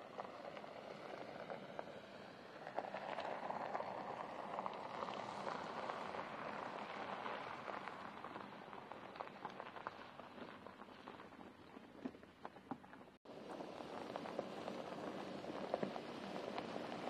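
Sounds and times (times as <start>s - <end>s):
tyres crunching gravel: 2.5s - 17.0s.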